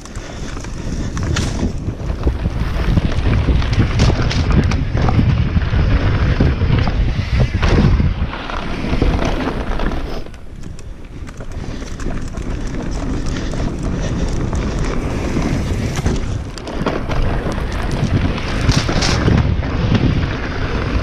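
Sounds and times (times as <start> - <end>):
bike tyres knocking and rattling: 0.0 - 21.0
wind rushing over microphone: 0.0 - 21.0.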